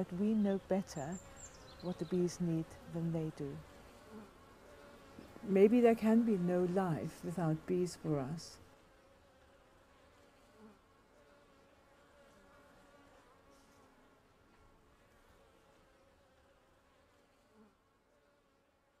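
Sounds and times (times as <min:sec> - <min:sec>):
bee buzzes: 0:00.0 - 0:19.0
honeybee colony humming: 0:00.0 - 0:19.0.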